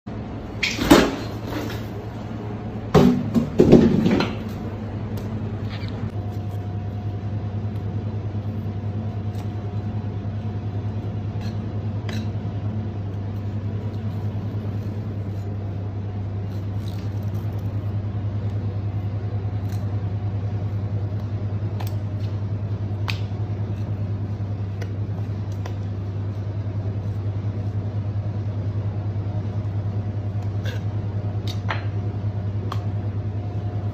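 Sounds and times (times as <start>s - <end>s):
low machine hum: 0.1s - 33.9s.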